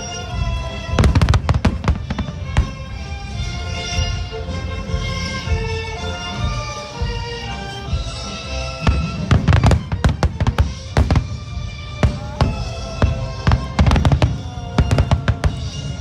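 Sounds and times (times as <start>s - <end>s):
fireworks banging: 0.0s - 16.0s
loud music: 0.0s - 16.0s.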